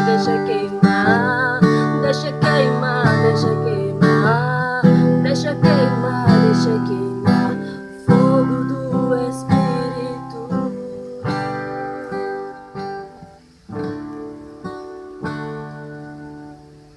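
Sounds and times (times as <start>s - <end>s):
acoustic guitar strumming chords: 0.0s - 16.9s.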